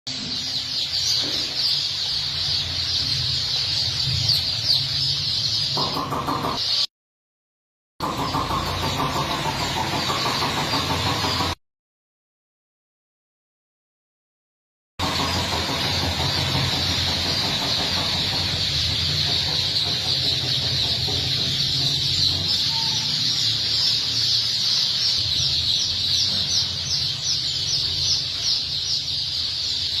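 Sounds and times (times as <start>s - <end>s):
flock of birds chirping: 0.1s - 6.9s, 8.0s - 11.6s, 15.0s - 30.0s
repeated falling bird calls: 0.1s - 6.9s, 8.0s - 11.6s, 15.0s - 30.0s.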